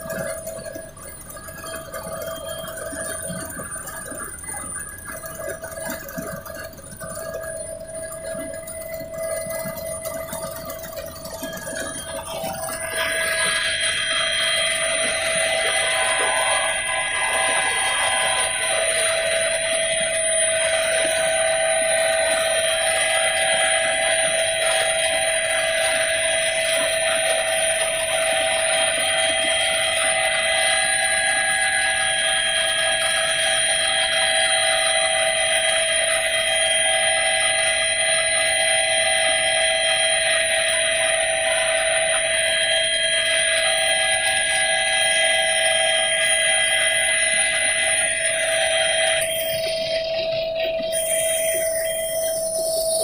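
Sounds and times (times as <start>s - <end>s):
high-pitched helicopter whine: 0.0s - 53.0s.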